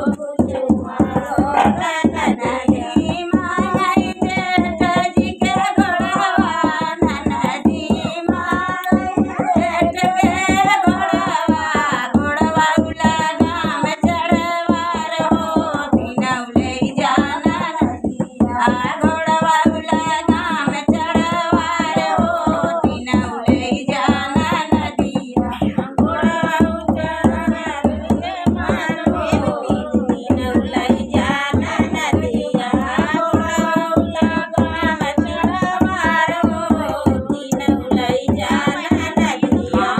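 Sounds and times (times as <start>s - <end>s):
hand drum beat: 0.0s - 39.9s
woman singing folk song: 0.0s - 39.9s.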